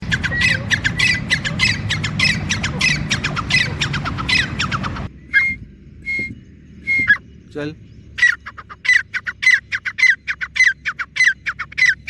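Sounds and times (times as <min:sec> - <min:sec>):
bird calling shrill notes: 0:00.0 - 0:12.0.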